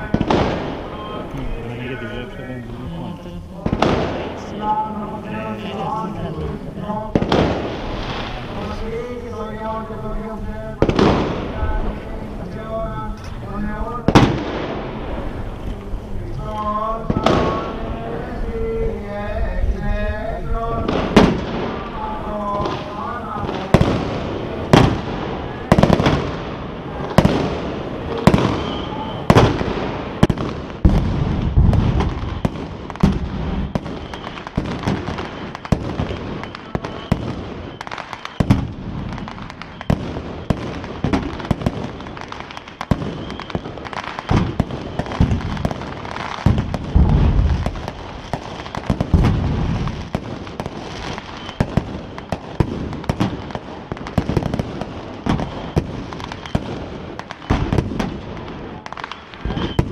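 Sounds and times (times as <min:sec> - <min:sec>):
deep firework booms: 0:00.0 - 0:59.9
fireworks bangs and cracks: 0:00.0 - 0:59.9.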